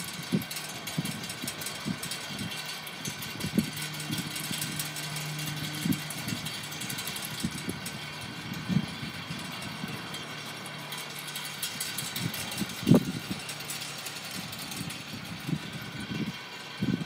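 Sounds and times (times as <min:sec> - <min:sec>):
light ticking: 0:00.0 - 0:16.1
wind on microphone: 0:00.2 - 0:10.2, 0:12.0 - 0:13.4, 0:14.2 - 0:17.0.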